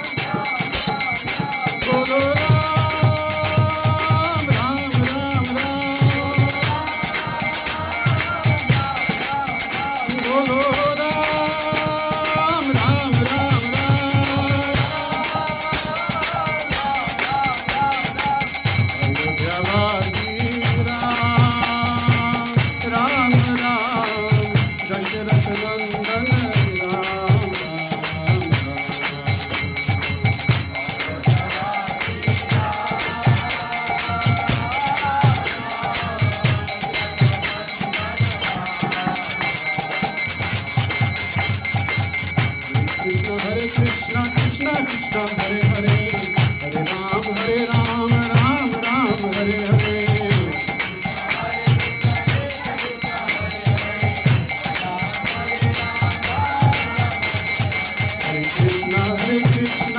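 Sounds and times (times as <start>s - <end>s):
drum beating a quick rhythm: 0.0s - 59.9s
hand cymbals ringing: 0.0s - 59.9s.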